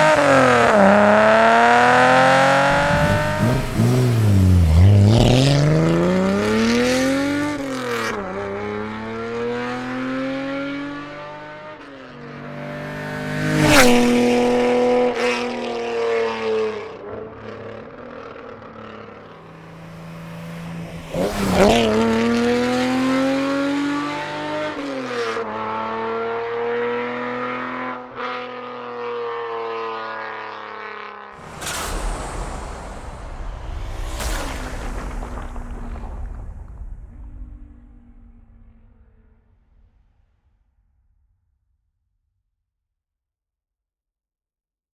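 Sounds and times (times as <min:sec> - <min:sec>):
car driving past: 0:00.0 - 0:39.3.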